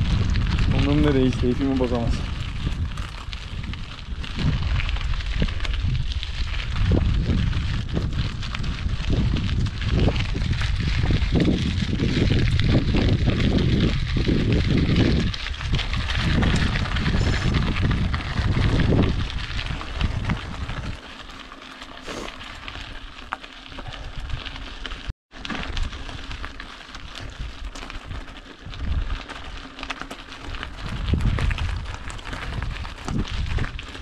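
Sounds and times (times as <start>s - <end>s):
wind gusting on microphone: 0.0s - 21.3s, 25.7s - 29.6s, 30.4s - 34.0s
bike tyres crunching on gravel: 0.0s - 34.0s.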